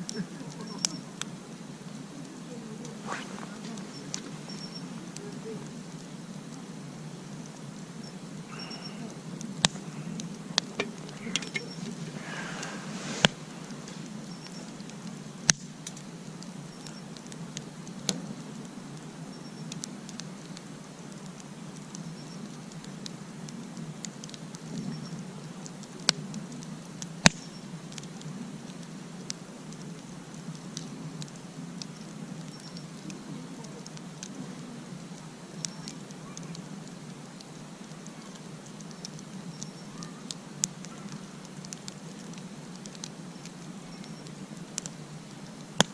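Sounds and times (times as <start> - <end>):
campfire crackling and popping: 0.0 - 45.9
low fire hiss: 0.0 - 45.9.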